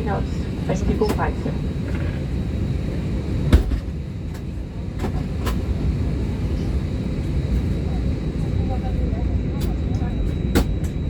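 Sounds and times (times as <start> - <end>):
aircraft cabin rumble: 0.0 - 11.0.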